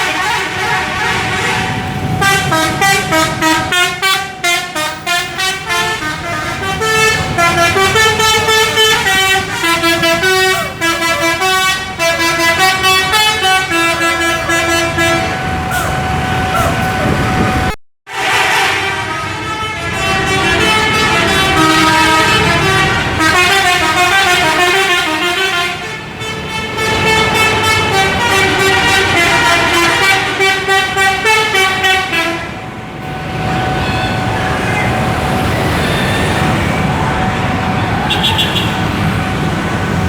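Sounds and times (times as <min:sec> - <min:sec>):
bus engine: 0:00.0 - 0:40.0
multi-tone bus horn tune: 0:00.0 - 0:40.0
traffic noise: 0:00.0 - 0:40.0.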